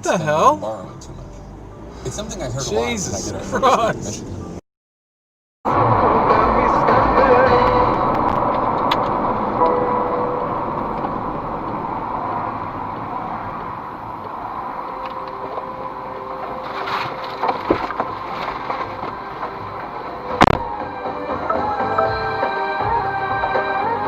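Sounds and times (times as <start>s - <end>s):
car road and engine noise: 0.0s - 4.6s, 5.7s - 24.0s.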